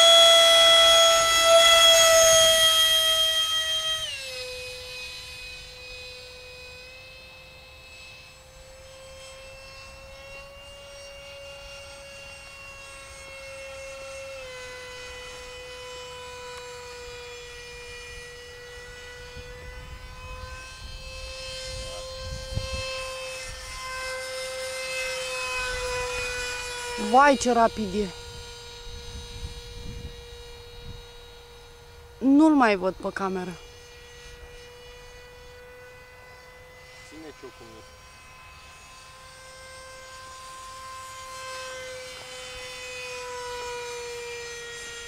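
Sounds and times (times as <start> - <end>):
model jet fan whine: 0.0 - 45.0.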